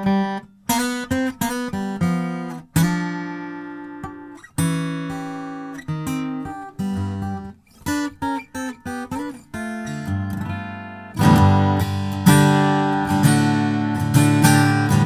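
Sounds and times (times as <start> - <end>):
acoustic guitar picked notes: 0.0 - 15.0
acoustic guitar strummed chords: 0.0 - 15.0.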